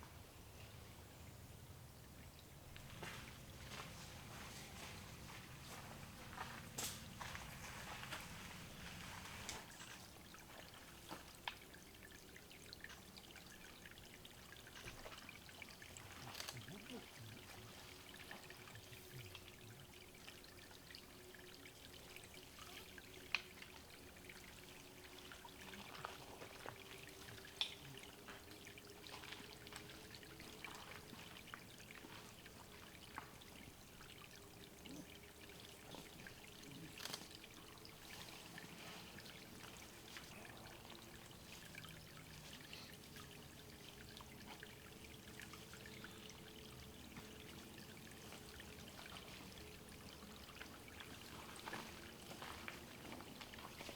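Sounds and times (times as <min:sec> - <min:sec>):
water drips: 0:00.0 - 0:53.9
water trickling into pool: 0:00.0 - 0:53.9.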